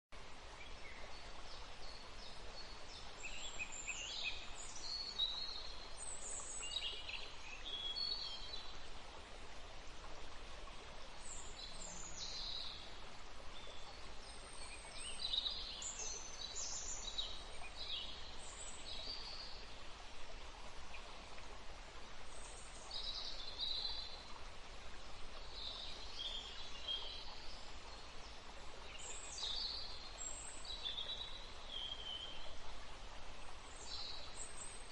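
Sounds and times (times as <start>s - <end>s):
background hiss: 0.2s - 34.9s.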